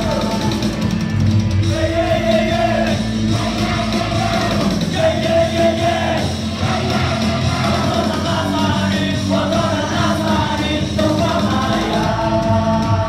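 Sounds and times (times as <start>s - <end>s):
amplified band music: 0.0s - 13.0s
group singing praise song: 1.6s - 13.0s.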